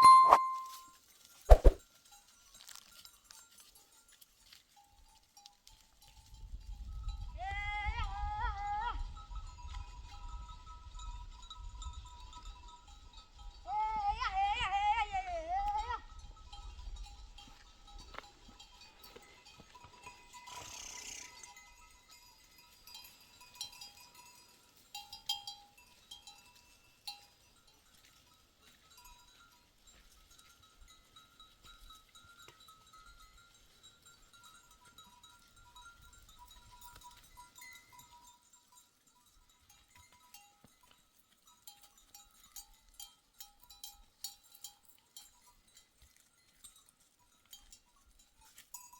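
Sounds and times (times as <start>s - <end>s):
faint livestock bells ringing: 0.0s - 48.9s.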